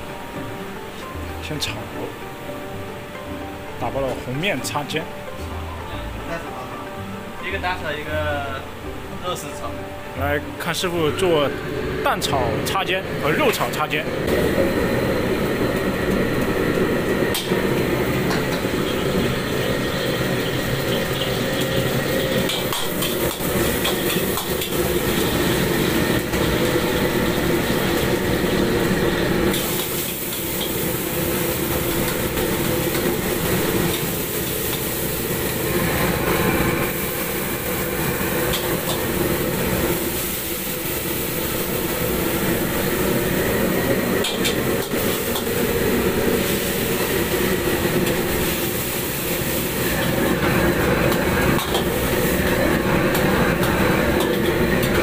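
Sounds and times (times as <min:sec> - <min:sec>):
gas burner rushing: 0:10.6 - 0:55.0
food sizzling in hot oil: 0:10.8 - 0:55.0.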